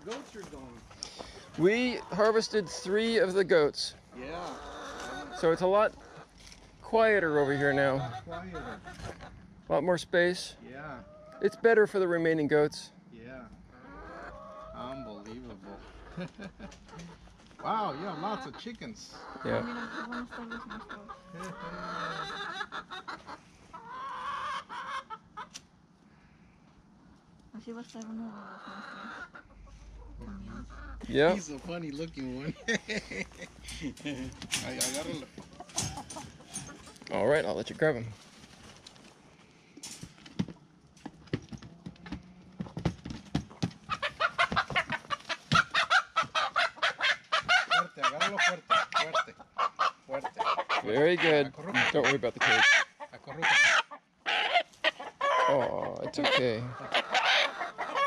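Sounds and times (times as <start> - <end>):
drawn-out chicken calls: 0.0 - 9.7, 10.9 - 12.1, 13.5 - 27.4, 28.1 - 31.6, 32.2 - 58.0
chickens clucking: 0.0 - 12.8, 13.4 - 58.0.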